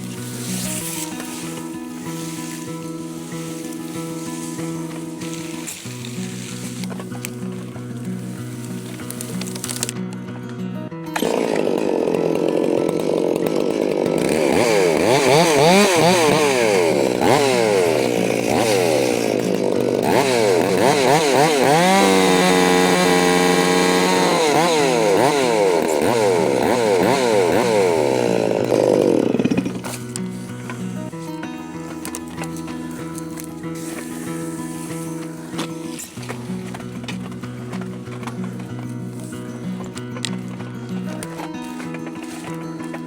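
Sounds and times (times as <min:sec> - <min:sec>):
chainsaw revving: 0:00.0 - 0:10.0, 0:11.1 - 0:43.0.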